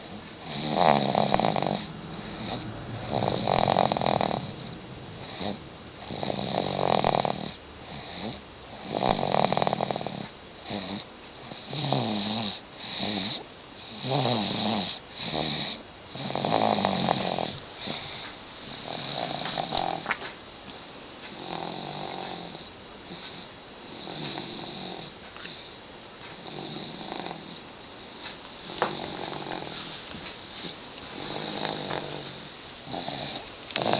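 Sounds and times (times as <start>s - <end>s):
baby snoring: 0.0s - 20.2s, 21.3s - 25.8s, 26.4s - 30.0s, 30.6s - 33.9s.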